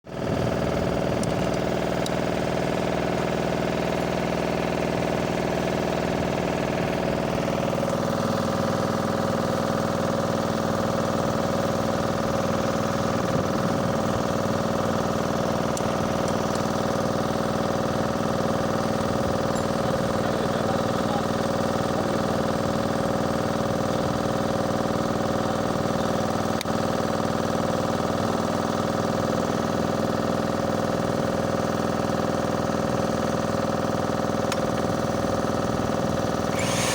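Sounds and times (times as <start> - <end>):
engine running steadily: 0.1 - 36.9.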